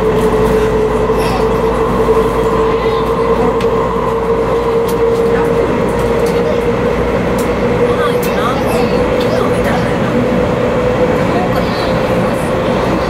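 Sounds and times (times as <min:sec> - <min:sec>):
train wheels and air rumbling: 0:00.0 - 0:13.0.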